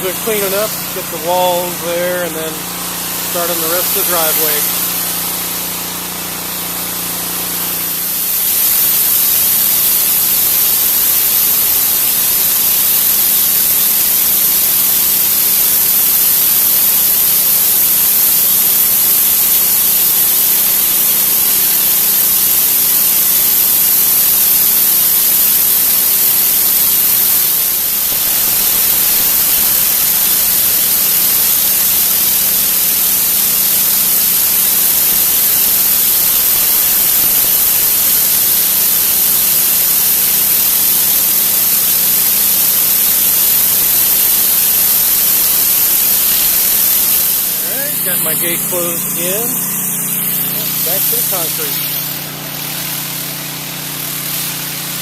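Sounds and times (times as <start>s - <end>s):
pressure washer spraying concrete: 0.0s - 55.0s.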